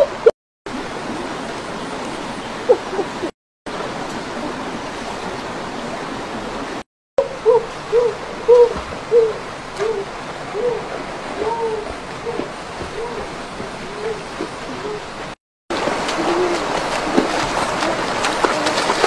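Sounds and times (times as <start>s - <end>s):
rocky stream rushing: 0.2s - 6.8s, 7.7s - 19.0s.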